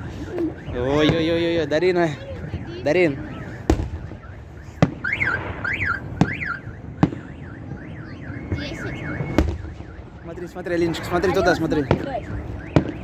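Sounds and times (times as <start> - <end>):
car alarm siren: 0.0 - 13.0
firework bangs: 0.0 - 13.0.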